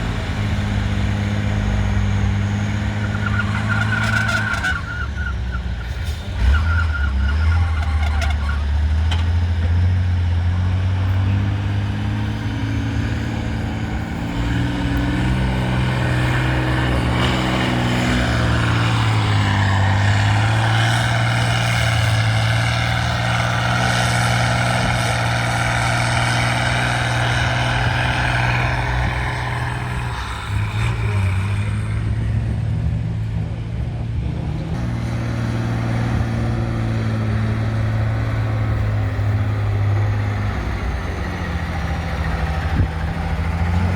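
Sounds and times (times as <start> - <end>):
truck engine under load: 0.0 - 43.9.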